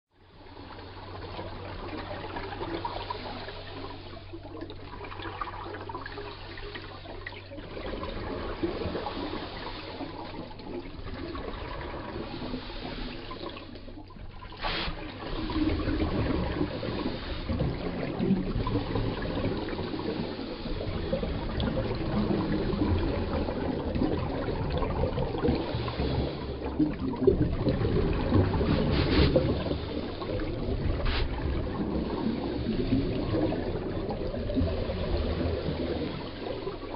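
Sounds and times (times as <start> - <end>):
underwater air bubbles: 0.1 - 36.9.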